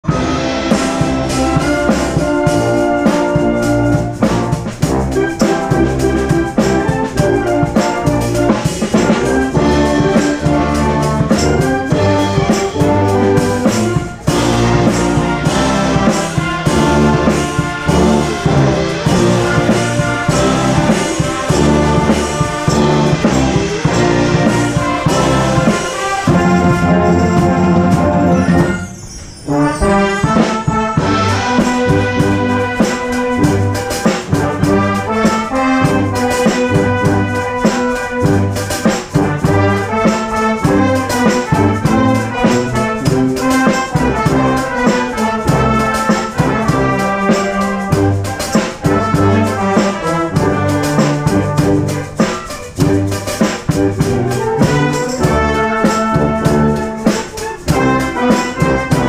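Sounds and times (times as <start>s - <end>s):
brass band playing: 0.0s - 59.0s
drum kit beat with cymbals: 0.0s - 59.0s.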